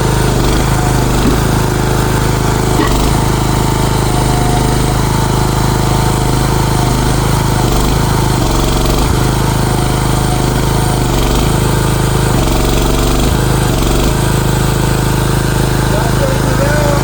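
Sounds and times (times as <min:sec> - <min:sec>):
mini excavator engine running: 0:00.0 - 0:17.0.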